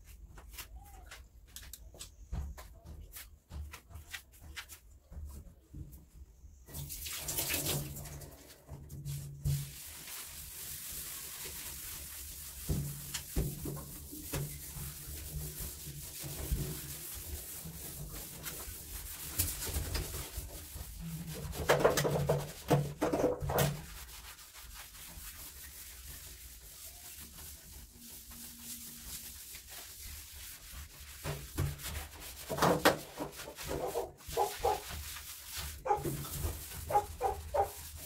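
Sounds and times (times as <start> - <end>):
scrubbing tiled surfaces: 6.7 - 38.0.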